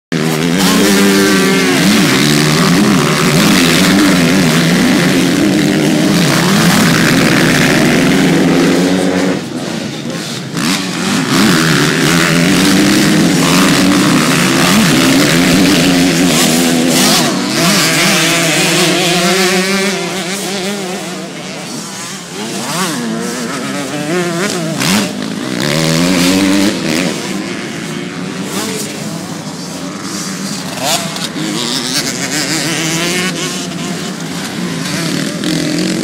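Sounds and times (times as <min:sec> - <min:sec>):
motocross bike engines revving: 0:00.1 - 0:36.0.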